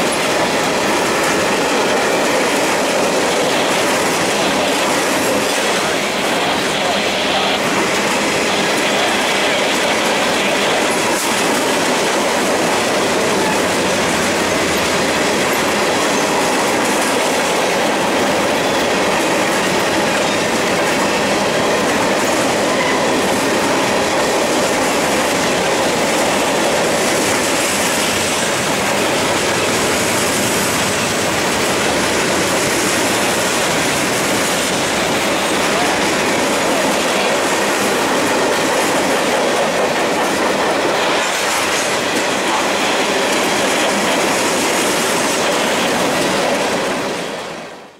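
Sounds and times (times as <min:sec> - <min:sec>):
steel wheels on rail: 0:00.0 - 0:47.9.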